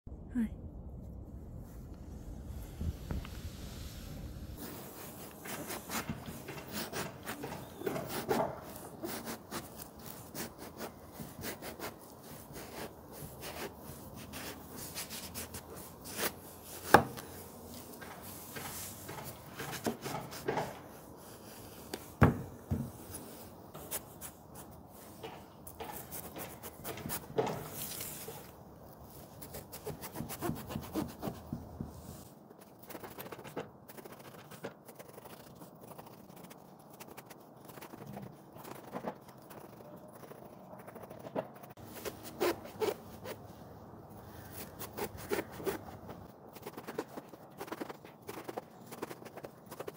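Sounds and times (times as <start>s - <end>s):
knife slicing and scraping eggplant: 4.6s - 20.9s, 23.7s - 31.6s, 32.5s - 43.5s, 44.4s - 49.9s.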